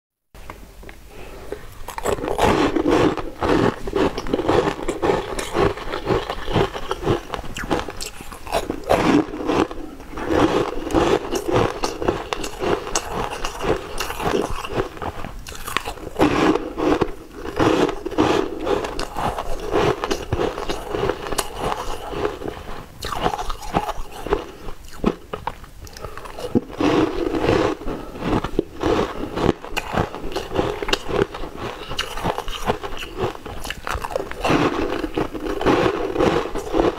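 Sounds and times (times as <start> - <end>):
crunching and chewing ice: 1.5 - 36.9.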